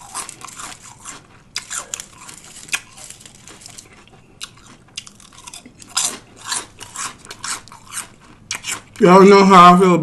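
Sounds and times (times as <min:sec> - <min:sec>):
lettuce crunching while chewing: 0:00.0 - 0:09.0.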